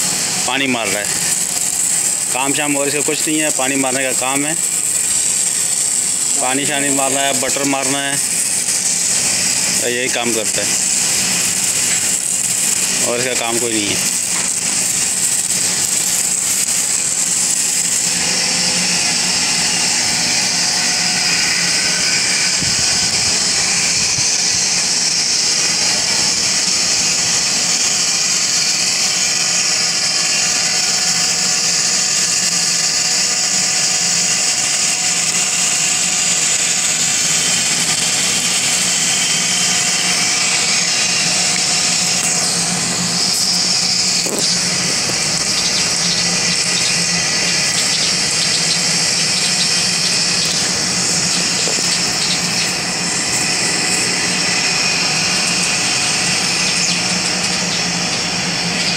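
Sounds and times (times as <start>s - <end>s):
motor running with hiss and hum: 0.0s - 58.9s.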